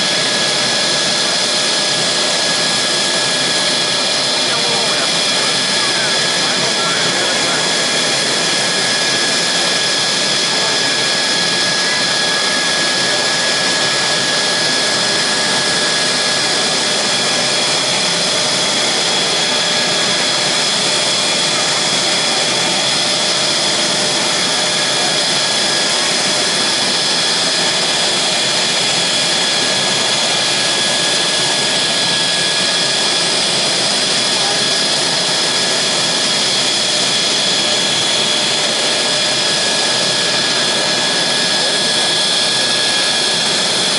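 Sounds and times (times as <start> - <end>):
high-pitched turbine whine: 0.0 - 43.9
jet engine roar: 0.0 - 43.9.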